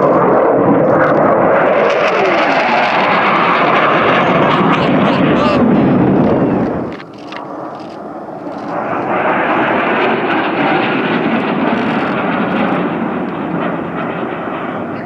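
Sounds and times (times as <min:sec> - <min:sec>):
fighter jet engine rushing: 0:00.0 - 0:15.0.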